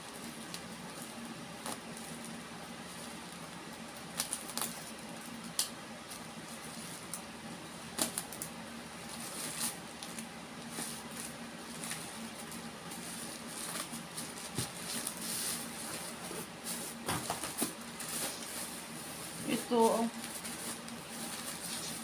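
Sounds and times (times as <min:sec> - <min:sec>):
plastic wrapping crinkling: 0:00.1 - 0:07.2, 0:07.9 - 0:22.0.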